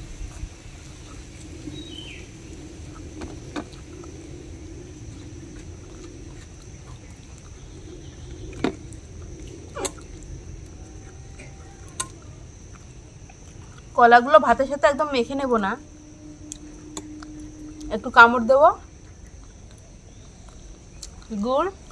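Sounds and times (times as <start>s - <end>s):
chewing: 0.2s - 18.0s, 18.8s - 21.9s.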